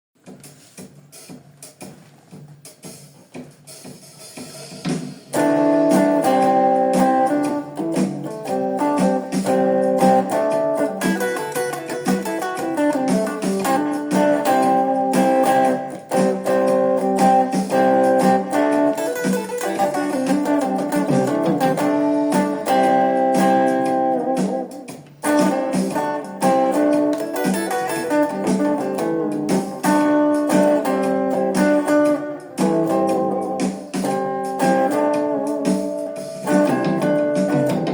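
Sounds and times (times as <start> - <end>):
plucked guitar melody: 5.3 - 37.9.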